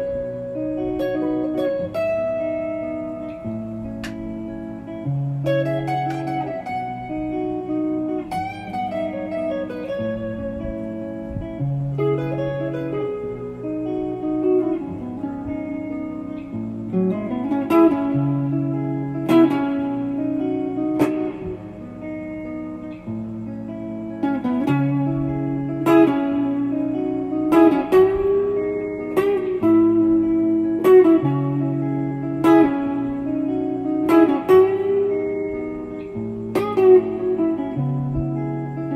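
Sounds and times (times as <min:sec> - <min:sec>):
guitar music: 0:00.0 - 0:38.9.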